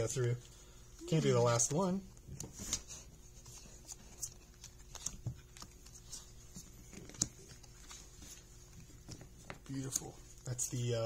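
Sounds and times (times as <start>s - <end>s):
cards tapping and rustling: 1.6s - 10.9s.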